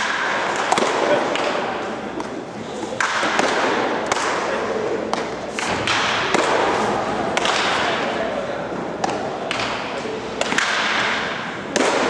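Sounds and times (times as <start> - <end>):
baseballs hitting catcher's mitt: 0.0 - 8.2, 8.9 - 12.0
steady background noise: 0.0 - 12.0.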